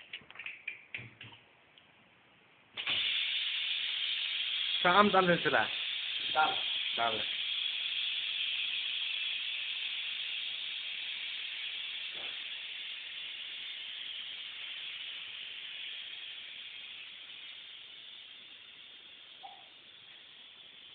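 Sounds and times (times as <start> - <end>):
pressure cooker steam hissing: 2.8 - 20.9.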